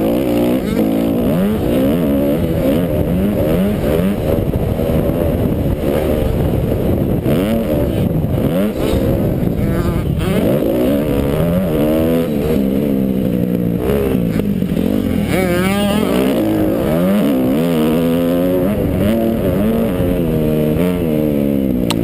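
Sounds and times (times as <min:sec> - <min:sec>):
motocross engine revving: 0:00.0 - 0:22.0.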